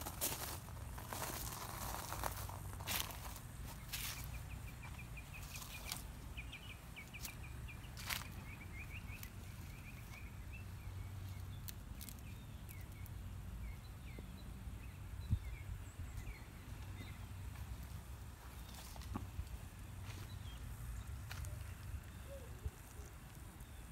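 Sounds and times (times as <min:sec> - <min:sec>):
small bird chirping: 0:00.4 - 0:17.9, 0:18.6 - 0:23.9.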